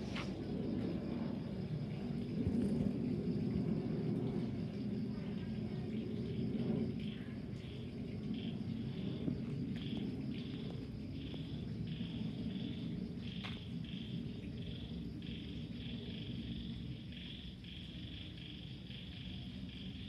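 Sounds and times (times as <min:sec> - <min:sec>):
distant jet engine rumble: 0:00.0 - 0:20.0
insects chirping in pulses: 0:00.0 - 0:20.0.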